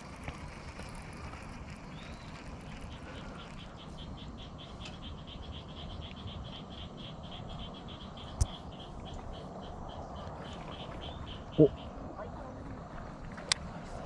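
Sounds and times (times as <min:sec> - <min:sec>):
low outdoor background noise: 0:00.0 - 0:14.0
small animal rhythmic chirp: 0:00.1 - 0:12.0.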